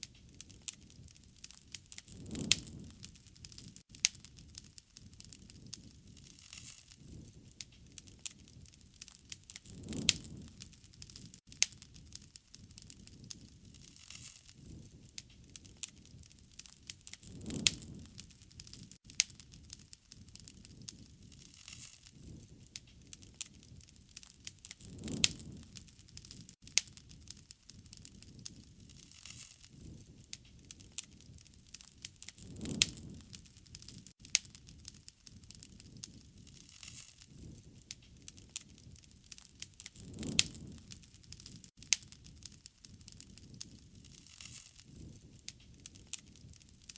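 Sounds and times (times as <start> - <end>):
low rushing of flames: 0.0 - 46.9
wood fire crackling: 0.0 - 46.9.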